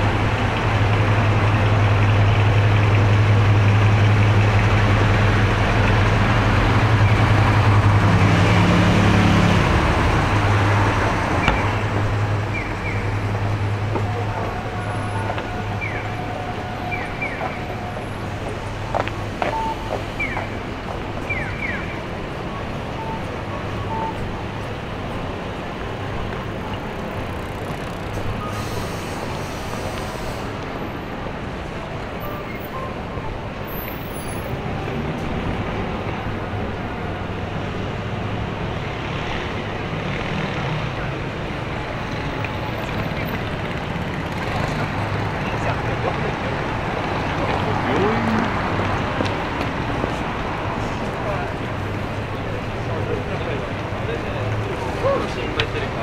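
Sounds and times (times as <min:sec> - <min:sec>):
traffic hum: 0:00.0 - 0:56.0.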